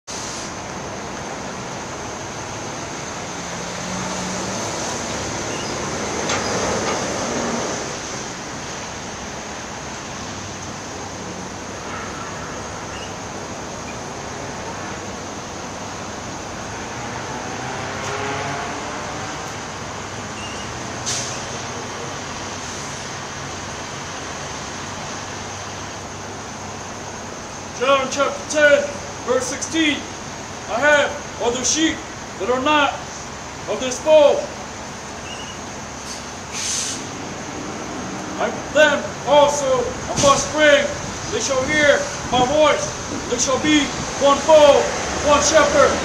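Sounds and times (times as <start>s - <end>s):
vehicles rumbling: 0.0s - 46.0s.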